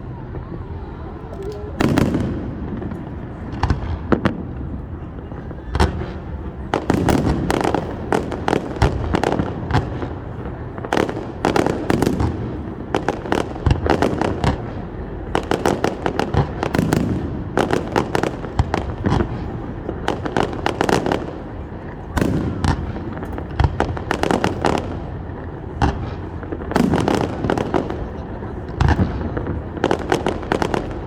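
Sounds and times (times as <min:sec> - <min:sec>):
distant fireworks rumble: 0:00.0 - 0:31.0
fireworks bangs: 0:00.0 - 0:31.0.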